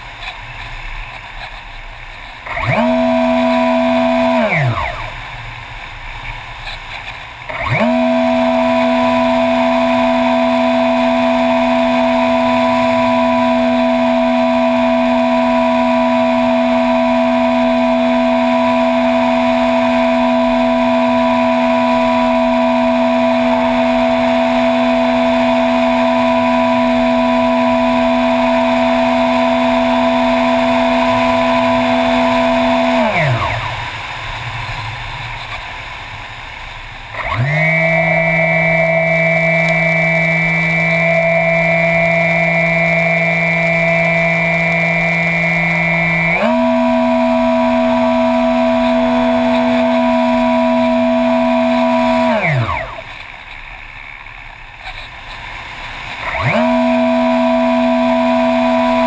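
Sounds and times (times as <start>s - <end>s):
model airplane motor droning: 0.2s - 59.0s.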